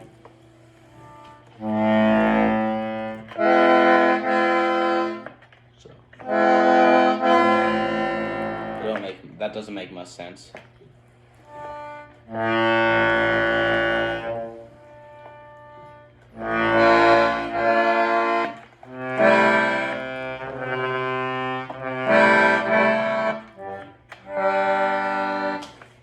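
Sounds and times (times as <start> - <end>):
button accordion chords: 0.0 - 5.5, 6.2 - 9.9, 10.9 - 26.0.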